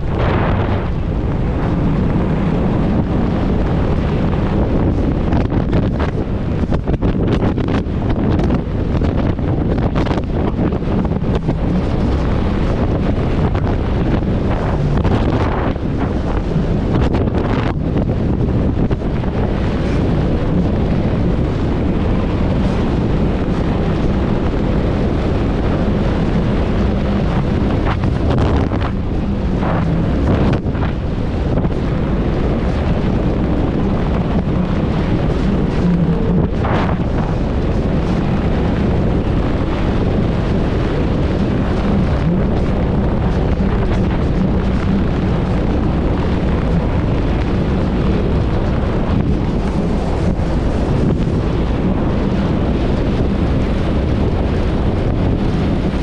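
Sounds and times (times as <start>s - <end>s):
water whooshes: 0.0s - 54.7s
outboard motor drone: 0.0s - 56.0s
wind buffeting microphone: 0.0s - 56.0s.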